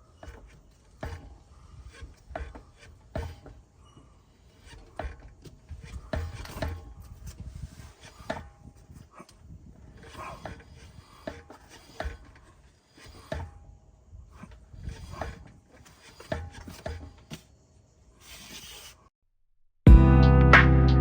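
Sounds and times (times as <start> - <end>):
suspension knocking and creaking: 0.0 - 18.7.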